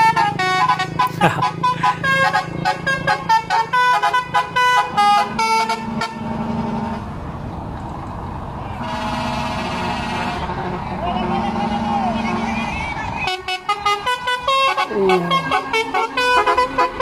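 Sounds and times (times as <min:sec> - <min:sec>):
truck multi-tone horn tune: 0:00.0 - 0:07.1, 0:08.8 - 0:17.0
truck engine running: 0:00.0 - 0:17.0.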